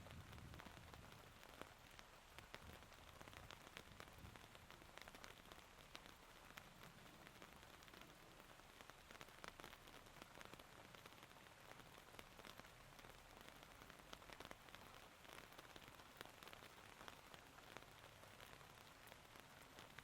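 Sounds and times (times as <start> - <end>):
rain falling: 0.0 - 20.0
raindrops ticking close by: 0.0 - 20.0.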